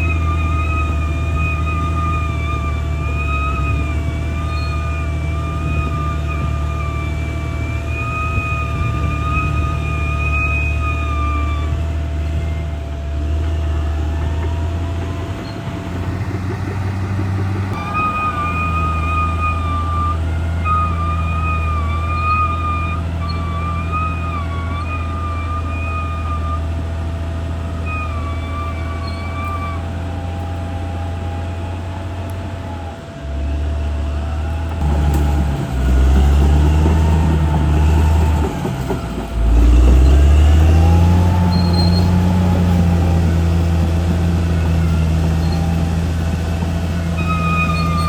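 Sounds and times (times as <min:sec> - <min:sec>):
bulldozer diesel engine droning: 0:00.0 - 0:48.0
wavering high whine: 0:00.0 - 0:48.0.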